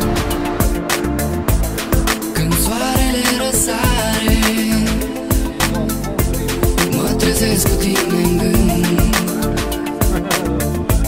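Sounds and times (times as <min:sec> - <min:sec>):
music with drum beat and melody: 0:00.0 - 0:11.0.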